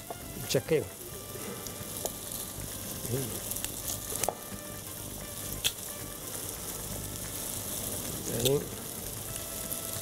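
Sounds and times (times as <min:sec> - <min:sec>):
onion sizzling in a pot: 0:00.0 - 0:10.0.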